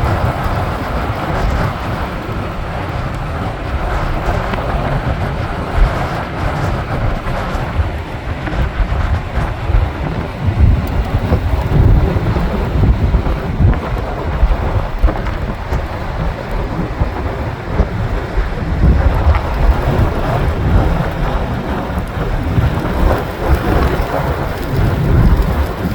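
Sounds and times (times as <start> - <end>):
gusty wind buffeting microphone: 0.0 - 25.9.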